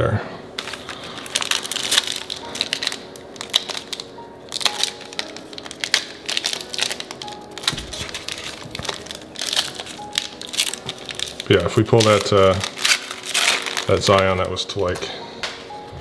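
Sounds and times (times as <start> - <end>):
wrapper crinkling: 0.6 - 15.8.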